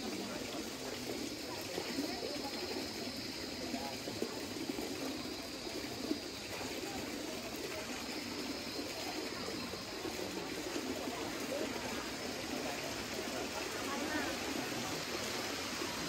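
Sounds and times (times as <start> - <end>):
water running in small cascades: 0.0 - 16.0.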